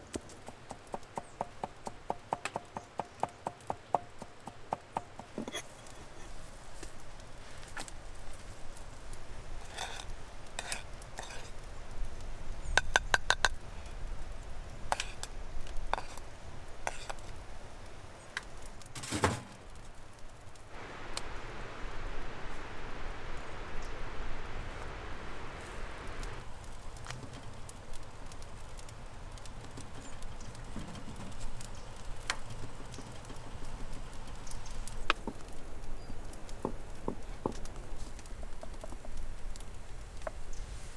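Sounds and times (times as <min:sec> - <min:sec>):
steady hiss: 0:00.0 - 0:40.9.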